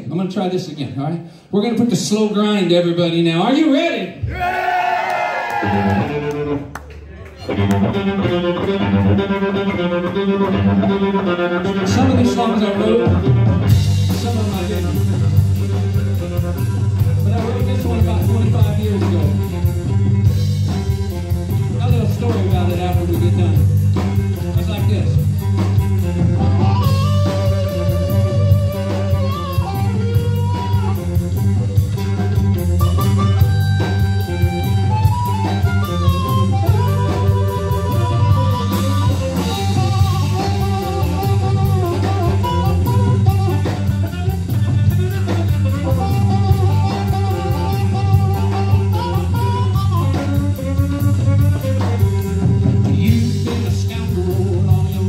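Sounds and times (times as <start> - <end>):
bass guitar: 1.7 - 55.0
lead guitar bent wavering notes: 7.4 - 55.0
drum kit: 7.5 - 55.0.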